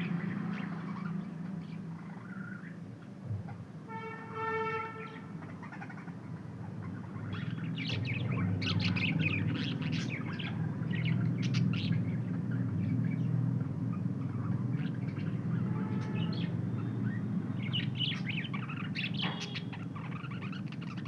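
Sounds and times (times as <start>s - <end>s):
budgerigars chirping: 0.0s - 2.8s, 5.4s - 21.0s.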